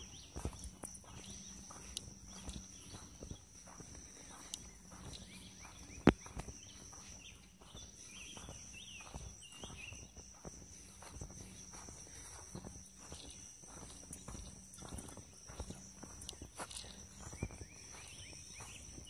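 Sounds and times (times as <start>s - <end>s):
footsteps walking outdoors: 0.0s - 19.0s
high-pitched insect-like whine: 0.0s - 19.0s
small birds chirping: 0.0s - 19.0s.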